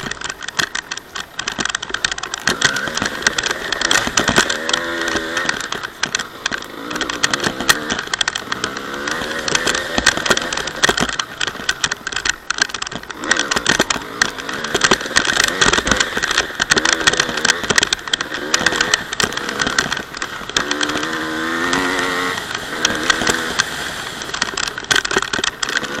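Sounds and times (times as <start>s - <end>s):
dirt bike engine revving: 0.0s - 26.0s
rattling and knocking: 0.0s - 26.0s.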